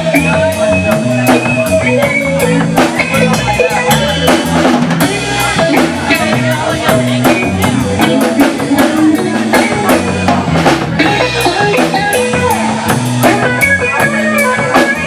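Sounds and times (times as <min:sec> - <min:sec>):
bass guitar: 0:00.0 - 0:15.0
drum kit steady beat: 0:00.0 - 0:15.0
electric guitar: 0:00.0 - 0:15.0.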